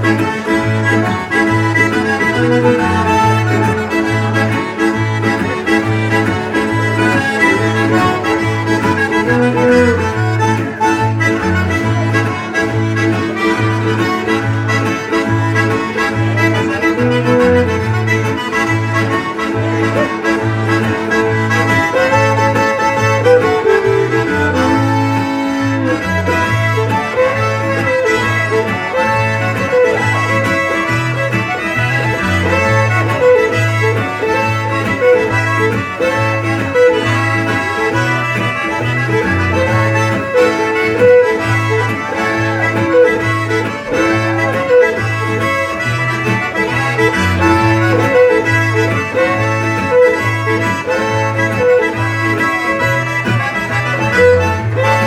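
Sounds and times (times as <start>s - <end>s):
button accordion: 0.0s - 55.0s
fiddle: 0.0s - 55.0s
strummed acoustic guitar: 0.0s - 55.0s.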